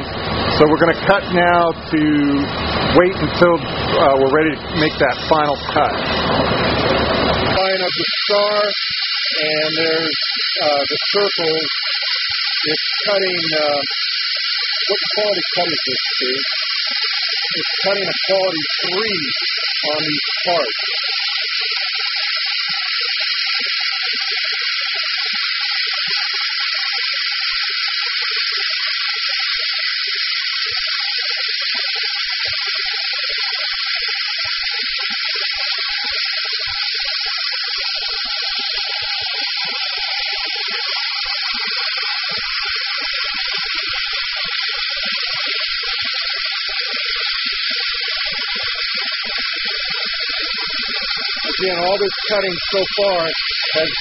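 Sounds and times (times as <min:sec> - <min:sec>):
waterjet cutter hissing: 0:00.0 - 0:54.0.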